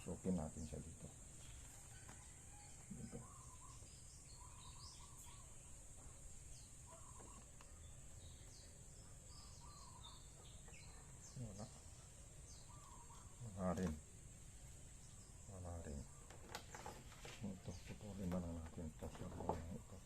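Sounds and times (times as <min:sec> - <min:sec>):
high insect drone: 0:00.0 - 0:20.0
small birds chirping: 0:00.0 - 0:20.0.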